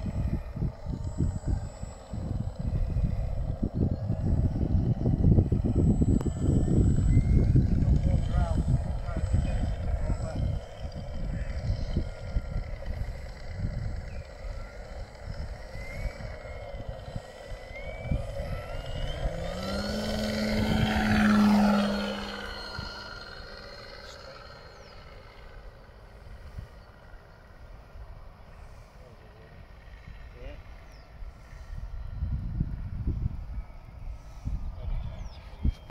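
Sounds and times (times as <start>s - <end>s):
model plane propeller motor: 0.0s - 35.9s
wind buffeting microphone: 0.0s - 35.9s.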